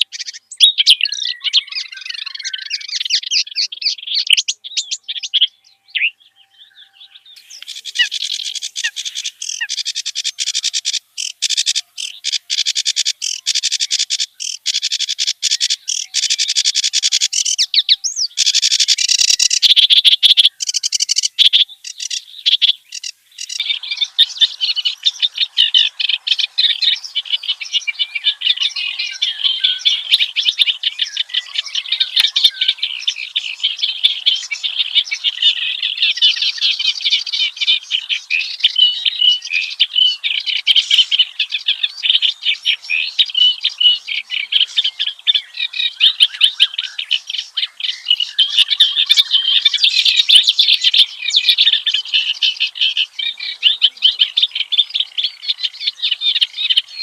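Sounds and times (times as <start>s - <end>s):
reed warbler singing: 0.0s - 57.0s.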